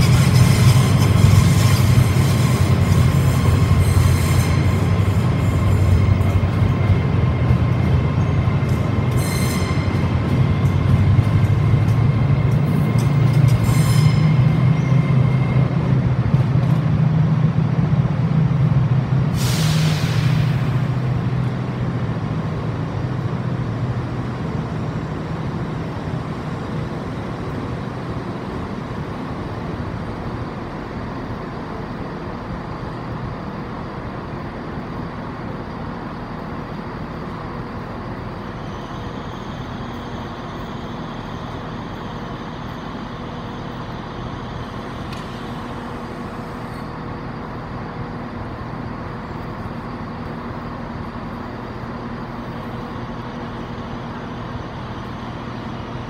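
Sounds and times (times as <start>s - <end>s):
trains humming and rumbling: 0.0s - 56.0s.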